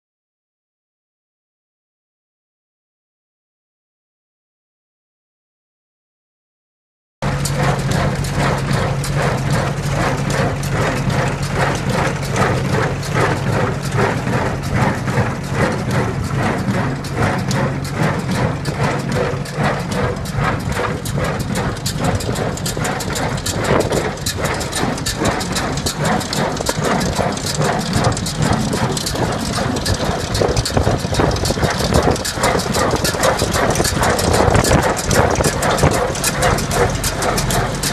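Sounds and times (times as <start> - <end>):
low hum: 7.2 - 37.9.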